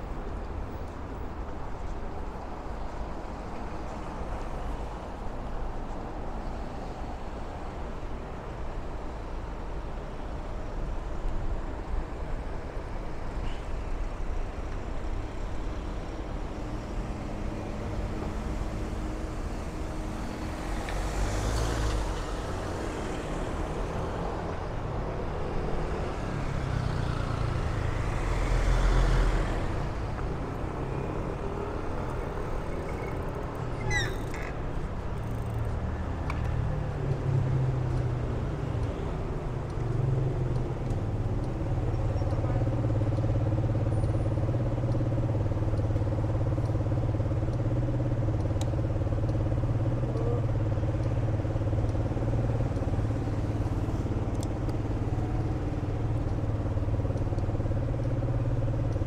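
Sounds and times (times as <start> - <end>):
road traffic hum: 0.0 - 59.0
vehicles passing close: 0.0 - 59.0.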